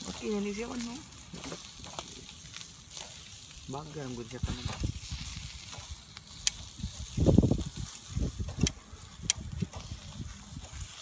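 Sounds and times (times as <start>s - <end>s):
meat sizzling on grill: 0.0s - 11.0s.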